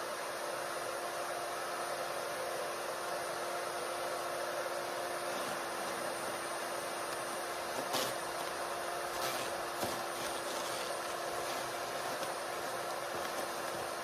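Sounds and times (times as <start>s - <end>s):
thin high whine: 0.0s - 14.0s
wood chipper humming: 0.0s - 14.0s.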